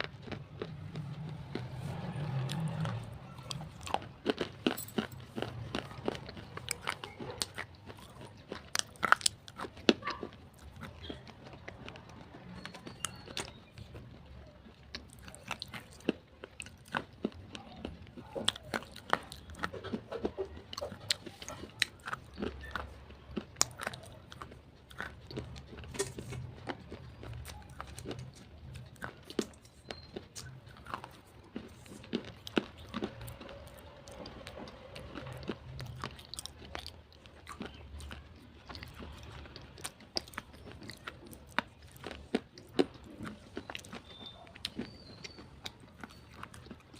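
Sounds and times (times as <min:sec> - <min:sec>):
slate pencils being chewed: 0:00.0 - 0:46.9.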